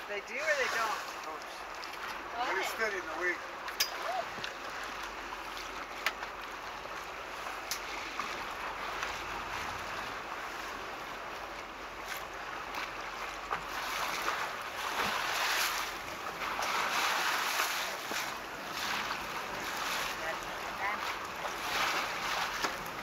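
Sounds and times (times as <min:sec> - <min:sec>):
waves: 0:00.0 - 0:23.0.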